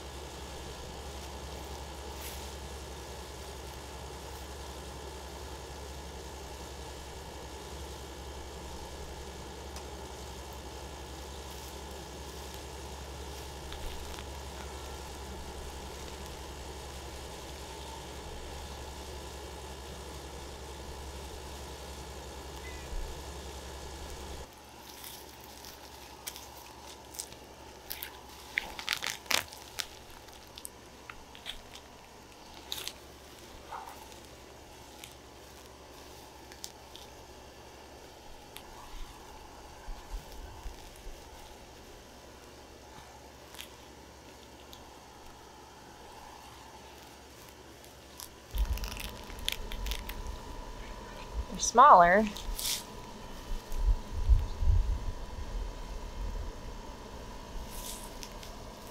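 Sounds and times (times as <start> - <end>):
hands digging in soil and straw: 0.0 - 50.5, 51.5 - 54.1, 57.6 - 58.9
low machine hum: 0.0 - 58.9.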